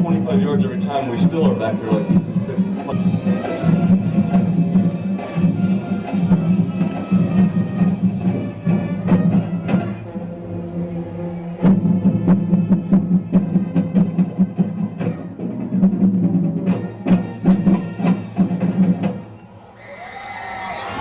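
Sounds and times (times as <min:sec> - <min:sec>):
steady drum beat: 0:00.0 - 0:10.4, 0:11.6 - 0:19.4
low brass notes: 0:00.0 - 0:19.8
crowd voices: 0:00.0 - 0:21.0.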